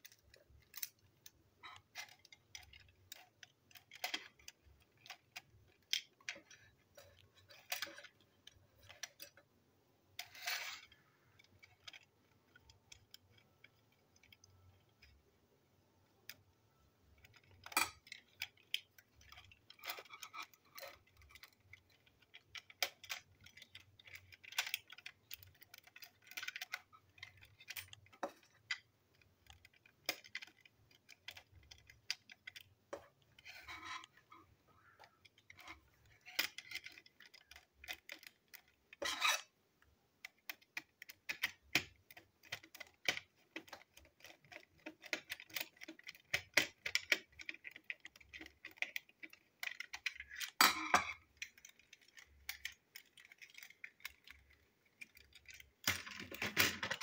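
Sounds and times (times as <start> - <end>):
plastic toy clicks and scrapes: 0.0 - 9.5, 10.1 - 15.3, 16.1 - 57.0.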